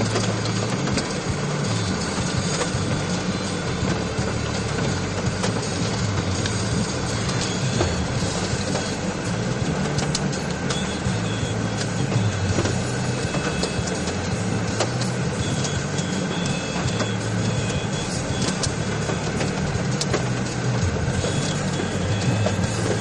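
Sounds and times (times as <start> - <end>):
hail and rain on vehicle roof: 0.0 - 23.0
low vehicle drone: 0.0 - 23.0.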